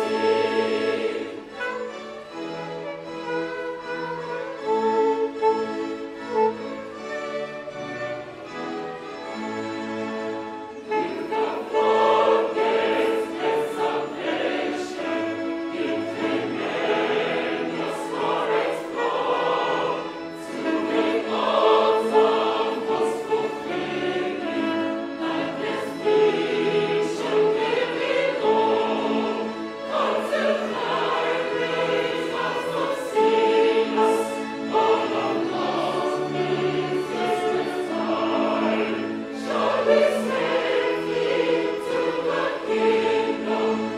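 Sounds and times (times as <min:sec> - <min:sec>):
choir singing a hymn: 0:00.0 - 0:03.0, 0:07.5 - 0:43.9
violins: 0:00.0 - 0:43.9.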